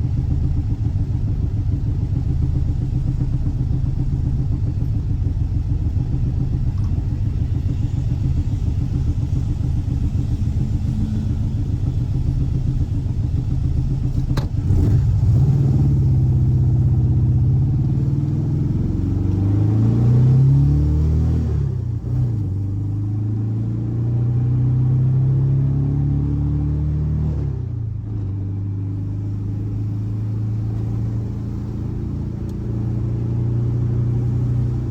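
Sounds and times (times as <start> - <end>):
car engine running: 0.0 - 24.9, 27.8 - 34.9.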